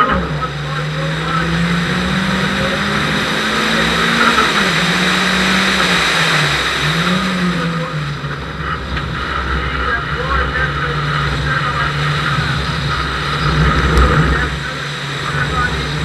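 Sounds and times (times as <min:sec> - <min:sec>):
car engine accelerating: 0:00.0 - 0:16.0
road and wind noise: 0:00.0 - 0:16.0.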